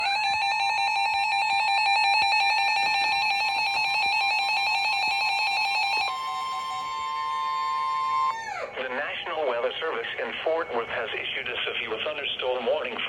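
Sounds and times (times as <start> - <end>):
electronic alarm warble: 0.0 - 11.2
steady warning tone: 0.0 - 13.0.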